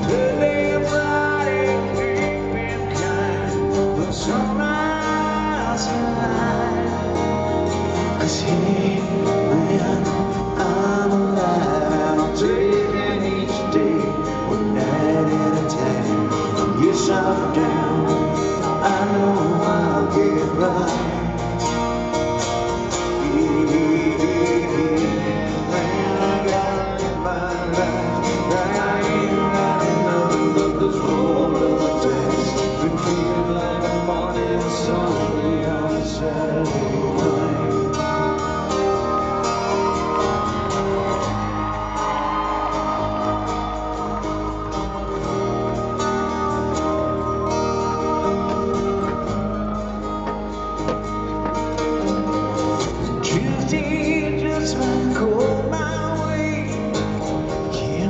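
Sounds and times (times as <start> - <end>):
acoustic guitars strummed: 0.0 - 58.0
male lead vocals: 0.0 - 58.0.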